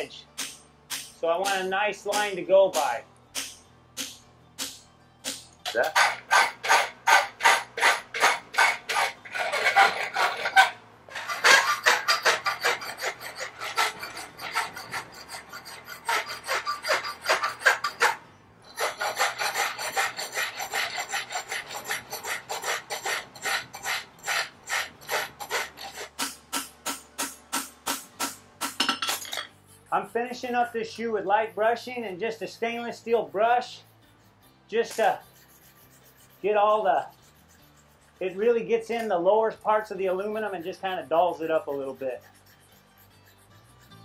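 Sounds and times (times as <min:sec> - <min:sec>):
hand file scraping metal: 0:01.2 - 0:03.0, 0:05.7 - 0:44.0.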